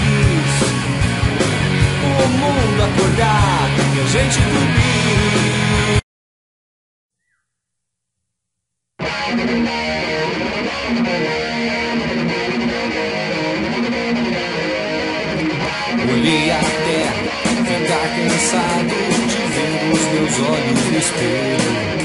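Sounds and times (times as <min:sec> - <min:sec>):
rock band guitars: 0:00.0 - 0:06.0, 0:09.0 - 0:22.0.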